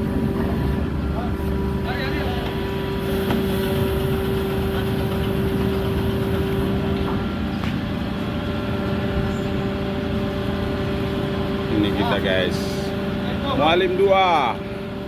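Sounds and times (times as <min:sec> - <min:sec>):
ship engine hum: 0:00.0 - 0:15.0.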